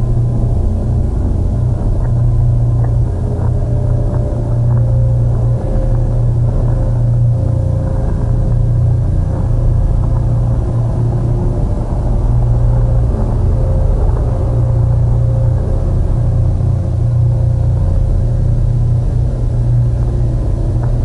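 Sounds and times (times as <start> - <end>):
low droning rumble: 0.0 - 21.0.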